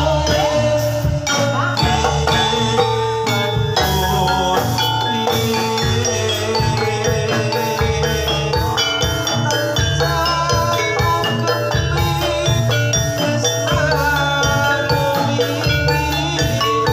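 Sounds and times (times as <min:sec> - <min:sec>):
drumming: 0:00.0 - 0:16.9
struck metallophone notes: 0:00.0 - 0:16.9.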